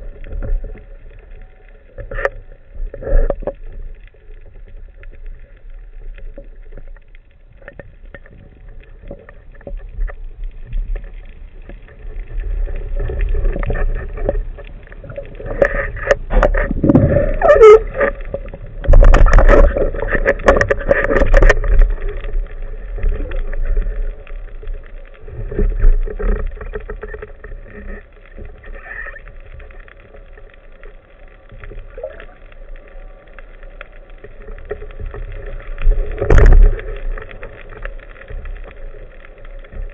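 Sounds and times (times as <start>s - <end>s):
underwater water movement: 0.0s - 39.9s.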